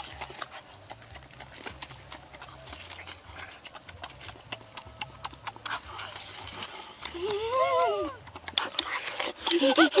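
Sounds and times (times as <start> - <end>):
chewing and lip-smacking: 0.0 - 10.0.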